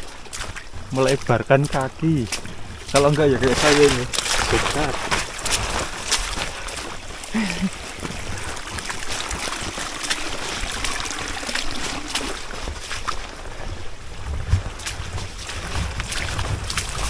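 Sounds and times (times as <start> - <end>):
boots splashing through water: 0.0 - 17.0
water trickling down trail: 0.0 - 17.0.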